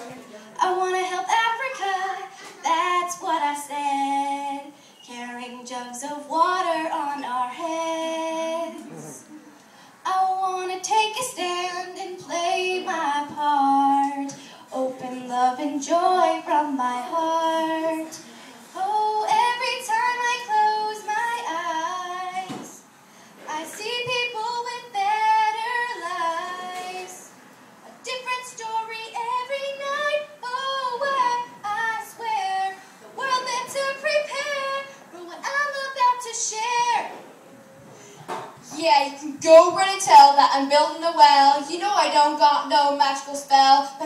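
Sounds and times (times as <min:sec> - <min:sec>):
girl singing unaccompanied: 0:00.5 - 0:09.4, 0:10.0 - 0:22.9, 0:23.5 - 0:37.2, 0:38.6 - 0:44.0.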